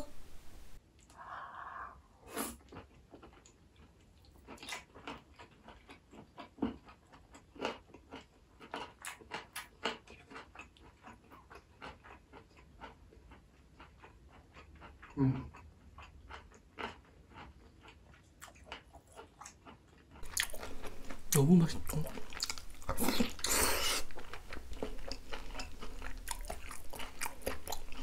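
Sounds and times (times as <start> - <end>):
person chewing with mouth clicks: 1.0 - 28.0.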